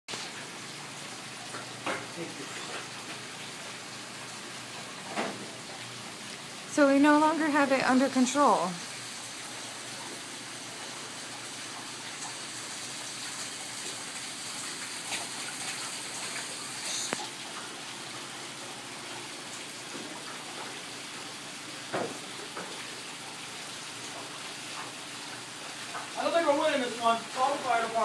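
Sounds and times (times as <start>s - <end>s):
water rushing: 0.1s - 28.0s.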